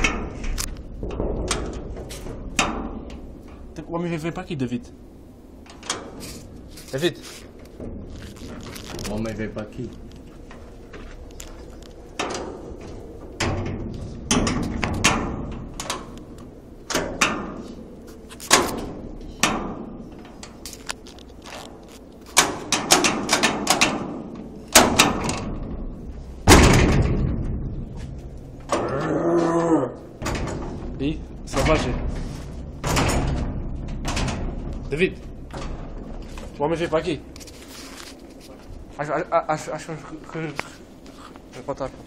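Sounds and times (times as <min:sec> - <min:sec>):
door banging and rattling: 0:00.0 - 0:04.4, 0:05.0 - 0:06.7, 0:07.5 - 0:40.4.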